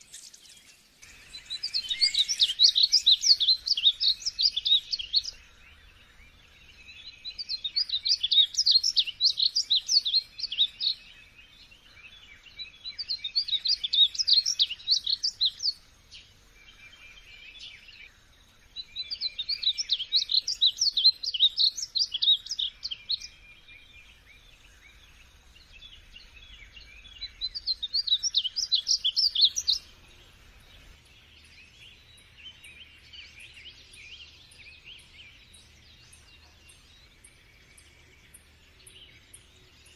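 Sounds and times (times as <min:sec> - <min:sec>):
quiet bird twittering: 0:00.0 - 0:39.9
songbird chirping: 0:00.0 - 0:39.9.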